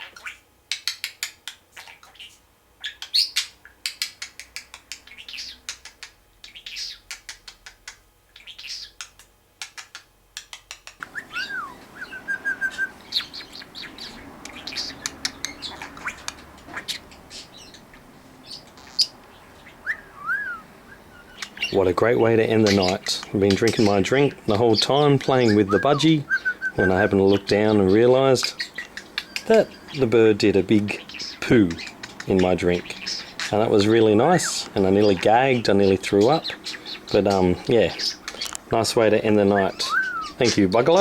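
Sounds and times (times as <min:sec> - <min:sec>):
budgerigar chirping: 0:00.0 - 0:09.2, 0:11.0 - 0:38.5, 0:39.1 - 0:41.0
low background hum: 0:00.0 - 0:41.0
budgerigar whistling: 0:01.8 - 0:04.2, 0:05.0 - 0:05.8, 0:06.4 - 0:07.2, 0:08.4 - 0:09.0, 0:11.0 - 0:38.5, 0:39.2 - 0:41.0.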